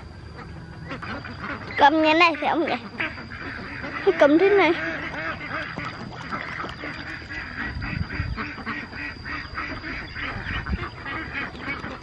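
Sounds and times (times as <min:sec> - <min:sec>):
rapid quacking animal calls: 0:00.4 - 0:12.0.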